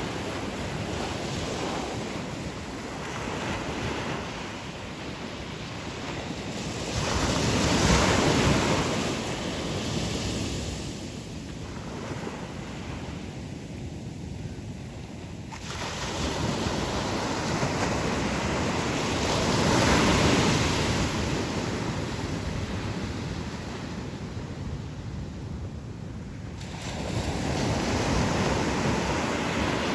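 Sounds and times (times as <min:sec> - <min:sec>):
sea waves breaking on beach: 0:00.0 - 0:13.4, 0:15.4 - 0:24.2, 0:26.6 - 0:29.9.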